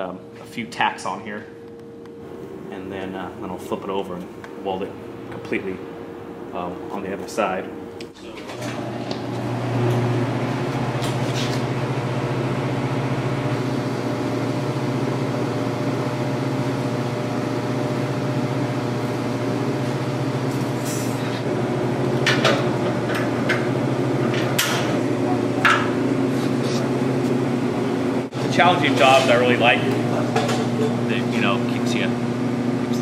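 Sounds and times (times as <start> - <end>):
welding machine humming: 1.0 - 33.0.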